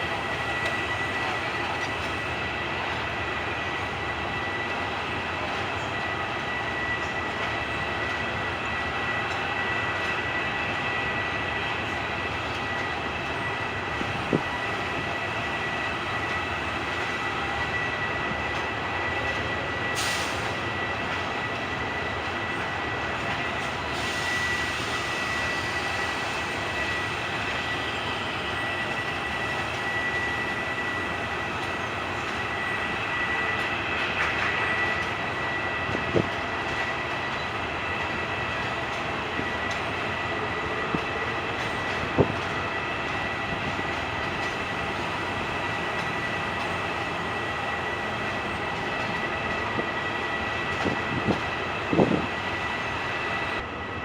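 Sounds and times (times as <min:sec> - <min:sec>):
constant high whine: 0:00.0 - 0:54.0
diesel train running: 0:00.0 - 0:54.0.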